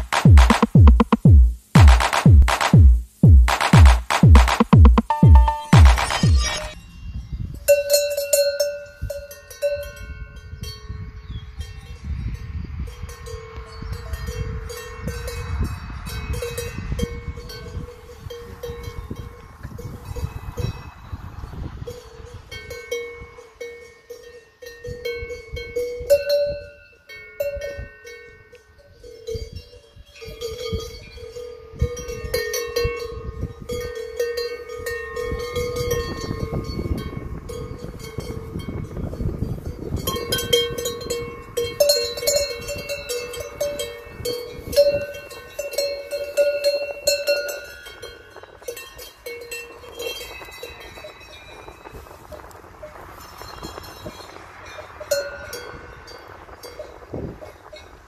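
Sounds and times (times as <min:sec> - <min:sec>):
cowbells clanking: 0:00.0 - 0:20.9, 0:21.8 - 0:58.0.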